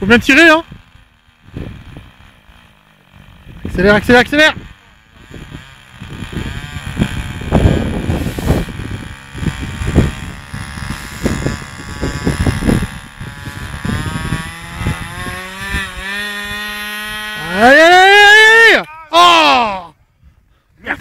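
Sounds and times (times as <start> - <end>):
model airplane engine running: 0.0 - 18.9.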